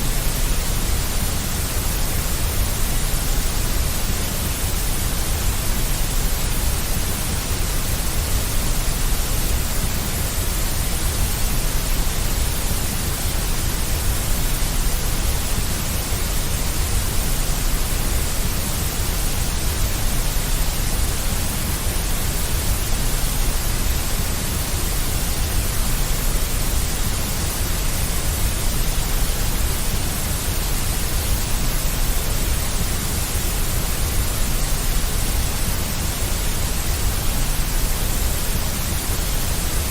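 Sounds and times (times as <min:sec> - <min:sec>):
deep white noise hiss: 0:00.0 - 0:39.9.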